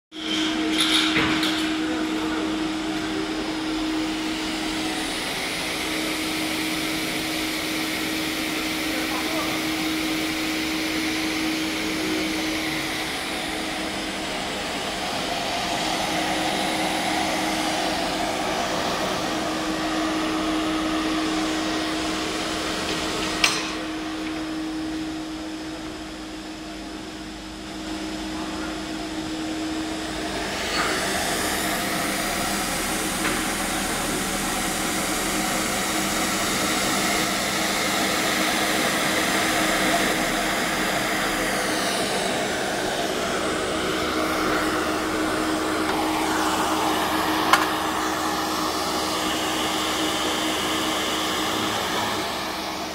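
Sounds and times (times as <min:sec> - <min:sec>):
grinding machine whirring hiss: 0:00.2 - 0:52.9
steady hum: 0:01.7 - 0:52.9.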